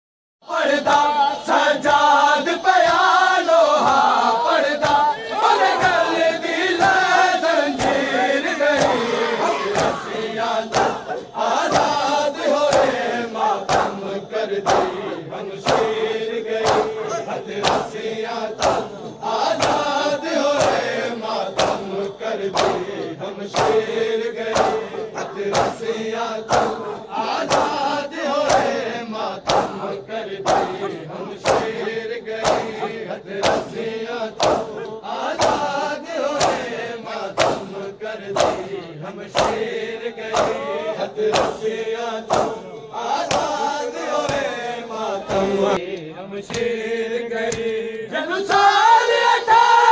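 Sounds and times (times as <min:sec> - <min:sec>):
men chanting in unison: 0:00.4 - 0:49.9
person leading recitation: 0:00.4 - 0:49.9
chest-beating slaps: 0:04.8 - 0:44.6, 0:45.2 - 0:46.8, 0:47.4 - 0:47.8.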